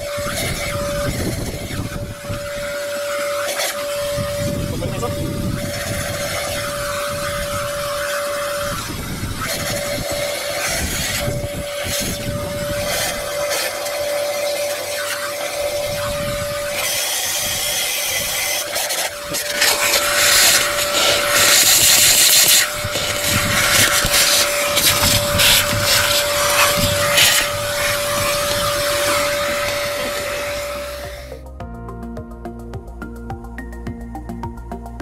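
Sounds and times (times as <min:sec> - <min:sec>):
vacuum cleaner whining: 0:00.0 - 0:31.5.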